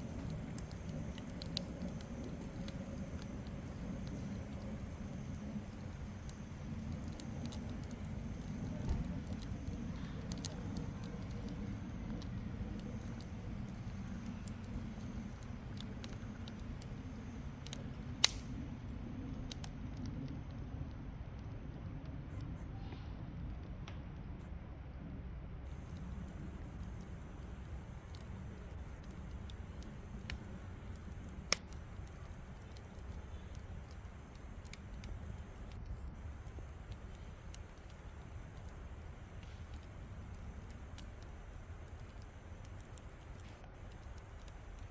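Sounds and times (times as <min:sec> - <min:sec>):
wood fire crackling: 0:00.0 - 0:22.5, 0:25.6 - 0:44.9
low steady rumble: 0:00.0 - 0:44.9.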